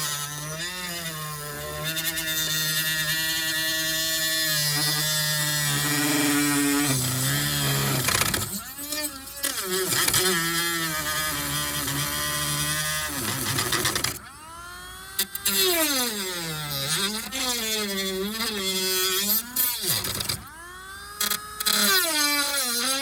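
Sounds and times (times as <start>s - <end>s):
rotary tool cutting disc whine: 0.0s - 23.0s.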